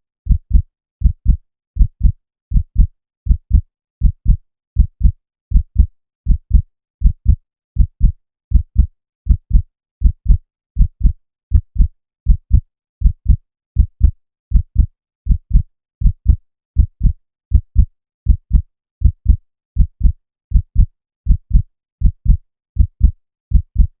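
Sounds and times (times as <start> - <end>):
heartbeat thuds: 0.3 - 24.0.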